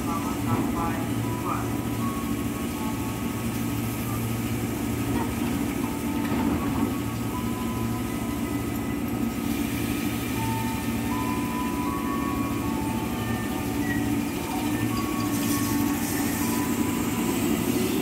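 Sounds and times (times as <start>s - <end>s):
train equipment humming: 0.0s - 18.0s
train sliding doors shutting: 0.0s - 18.0s.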